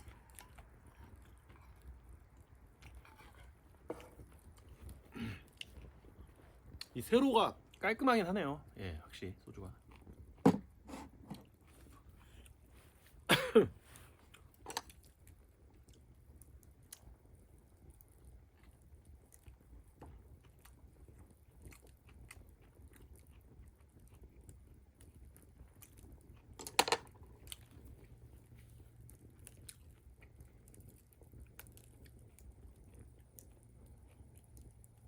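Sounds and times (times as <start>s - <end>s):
chewing: 0.0s - 7.0s, 9.7s - 35.0s.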